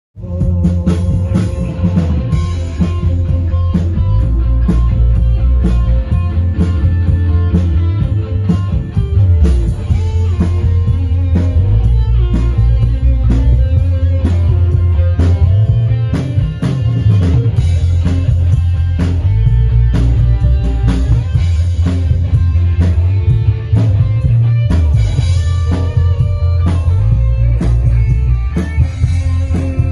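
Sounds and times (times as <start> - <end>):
drum kit beats: 0.2 - 29.9
electric guitar: 0.2 - 29.9
heavy bass: 0.2 - 29.9.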